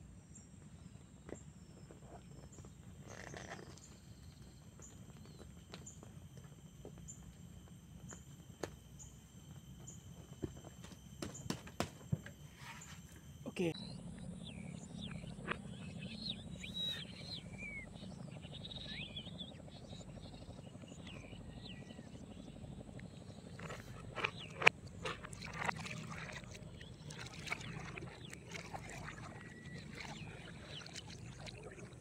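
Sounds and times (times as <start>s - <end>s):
low engine hum: 0.0s - 32.0s.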